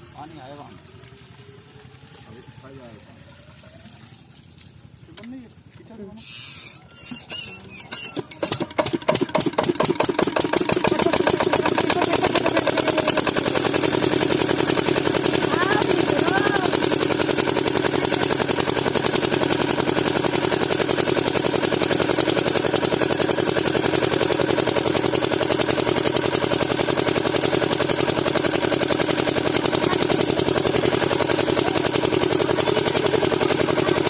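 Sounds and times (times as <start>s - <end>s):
diesel pump engine running: 0.0s - 34.0s.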